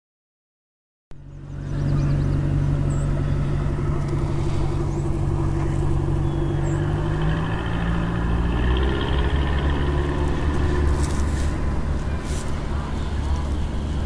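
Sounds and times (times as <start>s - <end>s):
boat motor droning: 1.2s - 14.0s.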